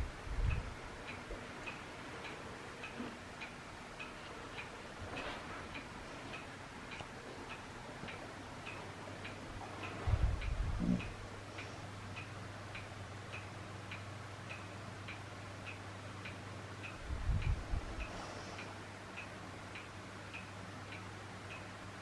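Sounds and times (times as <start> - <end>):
steady mechanical ticking: 0.0 - 22.0.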